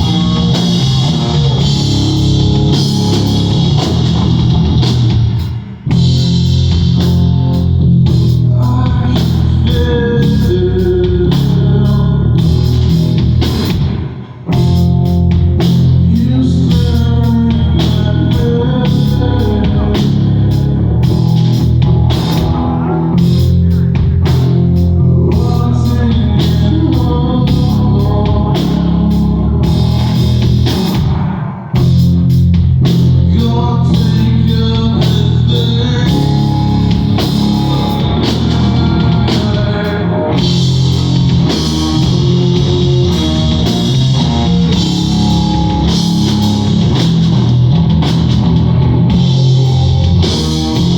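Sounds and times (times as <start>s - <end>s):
live rock band playing: 0.0s - 50.9s.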